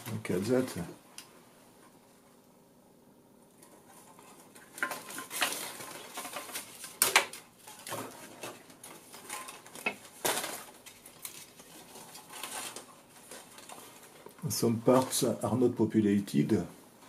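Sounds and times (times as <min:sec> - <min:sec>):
cables and foil rustling and crinkling: 0:00.0 - 0:02.0, 0:03.5 - 0:17.0.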